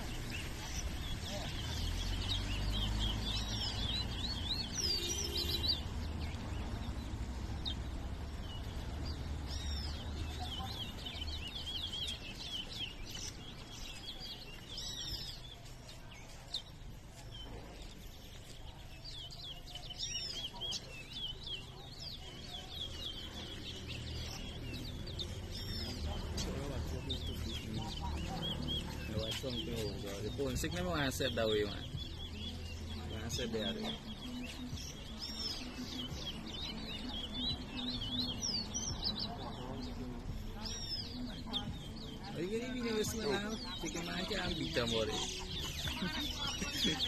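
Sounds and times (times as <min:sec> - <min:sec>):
finches chirping and warbling: 0:00.0 - 0:47.0.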